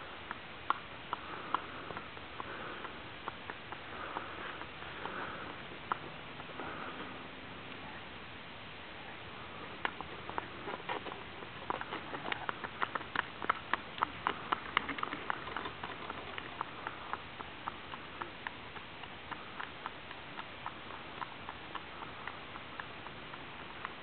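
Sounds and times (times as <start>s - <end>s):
hooves clip-clopping on pavement: 0.0s - 8.0s, 9.4s - 24.0s.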